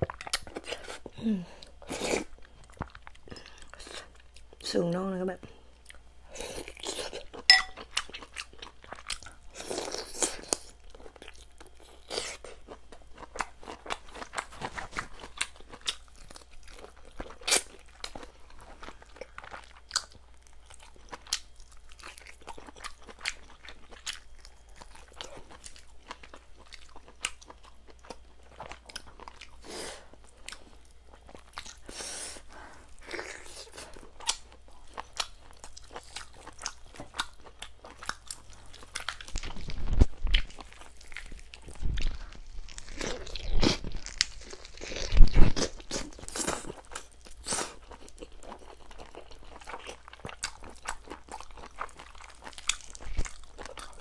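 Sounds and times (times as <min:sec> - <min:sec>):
chewing and crunching bones: 0:00.0 - 0:04.6, 0:05.7 - 0:54.0.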